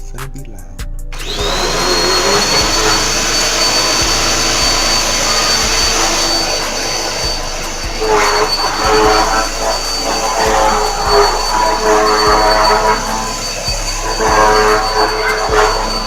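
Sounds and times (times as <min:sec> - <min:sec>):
vacuum cleaner running: 0:01.2 - 0:16.0
wavering pitched sound: 0:01.2 - 0:16.0.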